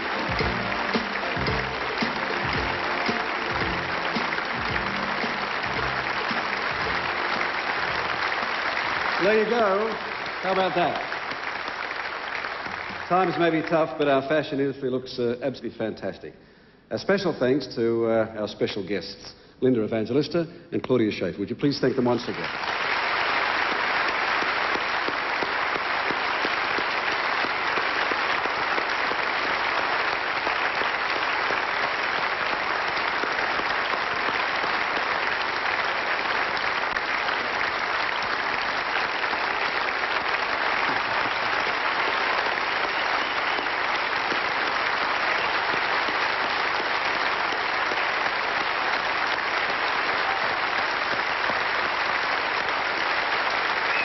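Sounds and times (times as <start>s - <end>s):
large audience applauding: 0.0s - 14.2s, 22.0s - 54.0s.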